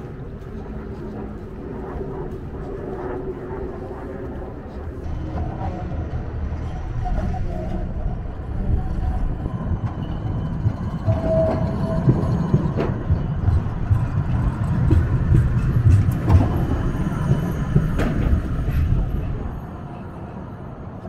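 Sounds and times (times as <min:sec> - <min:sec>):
tram rumbling past: 0:00.0 - 0:21.0.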